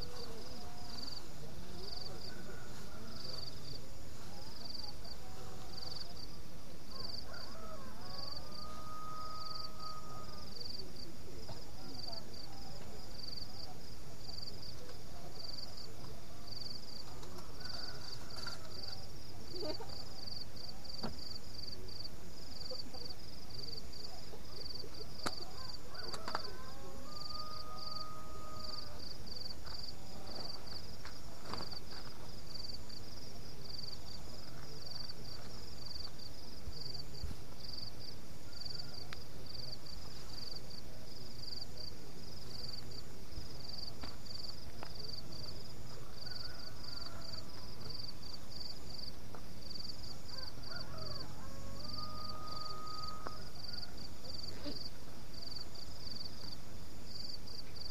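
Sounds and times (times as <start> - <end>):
night insects chirping: 0.0 - 57.9.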